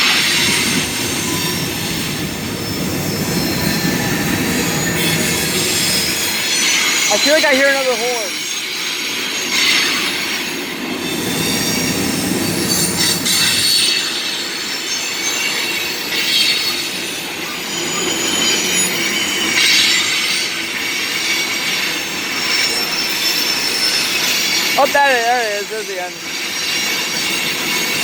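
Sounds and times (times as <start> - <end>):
freight cars rumbling on rails: 0.0 - 28.0
train wheels squealing: 0.0 - 28.0.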